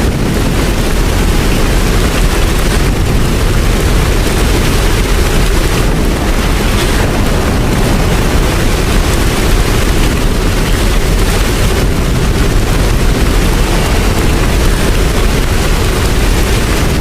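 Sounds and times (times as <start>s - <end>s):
deep rumble: 0.0s - 17.0s
heavy rain: 0.0s - 17.0s.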